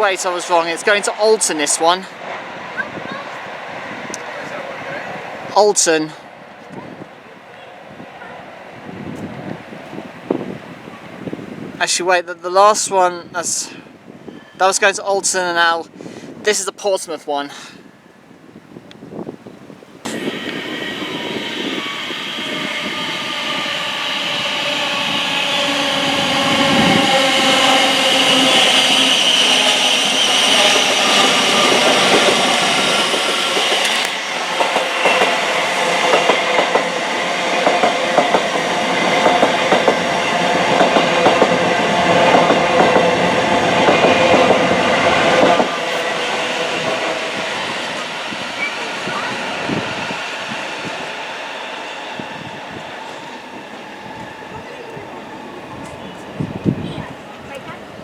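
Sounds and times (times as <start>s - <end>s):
electric train whine: 0.0s - 11.8s, 18.2s - 58.0s.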